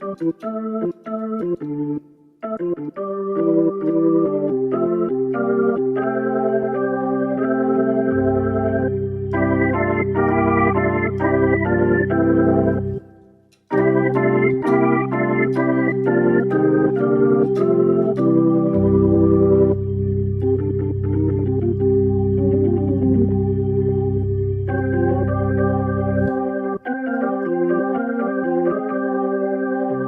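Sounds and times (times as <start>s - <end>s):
electronic organ chords and melody: 0.0s - 30.0s.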